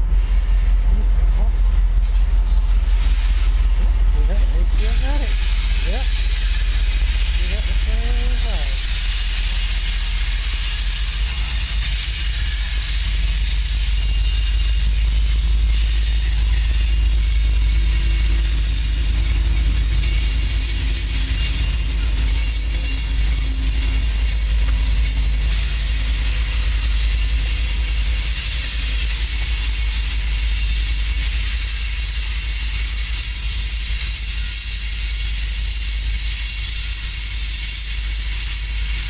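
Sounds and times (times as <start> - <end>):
locomotive engine drone: 0.0 - 39.0
train wheels rumbling on rails: 0.0 - 39.0.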